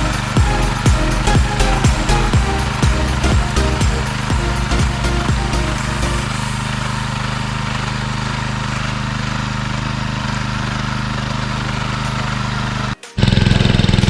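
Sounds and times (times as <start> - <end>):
small tractor engine running: 0.0 - 1.5, 2.1 - 14.0.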